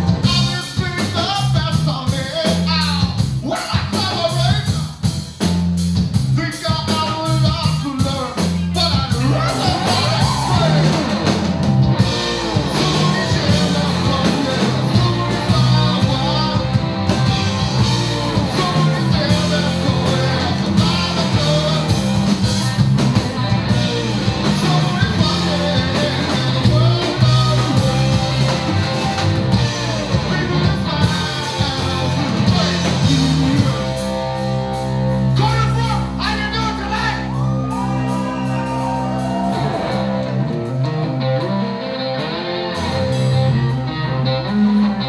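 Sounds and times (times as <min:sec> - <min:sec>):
bass guitar: 0:00.0 - 0:45.0
drums: 0:00.0 - 0:45.0
electric guitar: 0:00.0 - 0:45.0.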